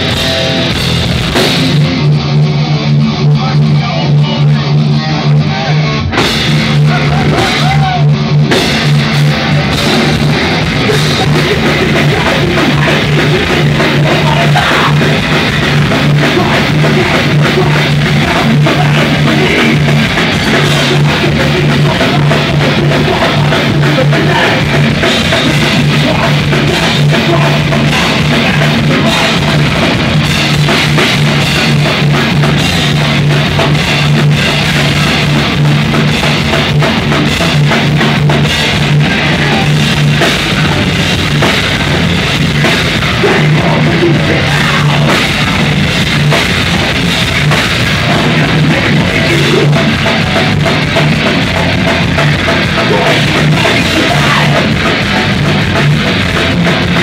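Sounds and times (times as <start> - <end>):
rapid drum hits: 0.0 - 3.4, 6.1 - 57.0
bass guitar: 0.0 - 57.0
distorted electric guitar: 0.0 - 57.0.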